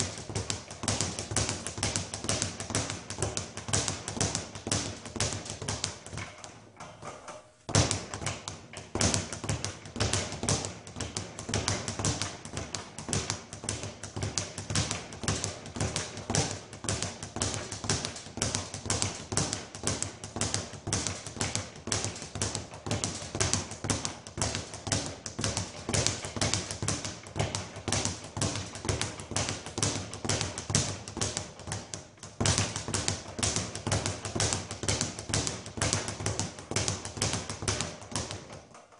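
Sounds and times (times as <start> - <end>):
speed bag being punched: 0.0 - 38.9.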